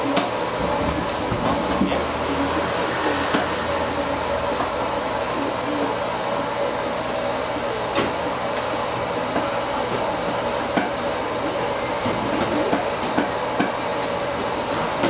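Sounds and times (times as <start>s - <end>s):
fan or ventilation hum: 0.0s - 15.0s.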